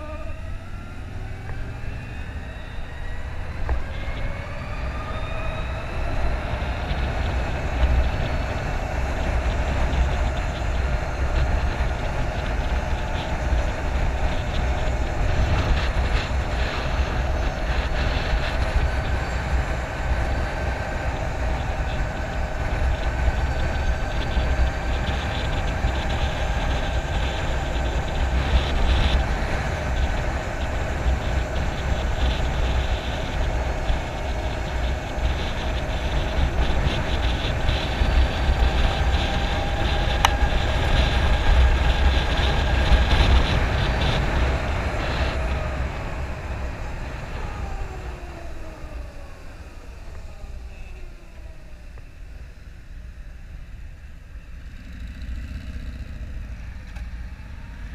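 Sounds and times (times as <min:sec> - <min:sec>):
wind buffeting: 0:00.0 - 0:54.4
electric motorcycle whine: 0:00.0 - 0:57.9.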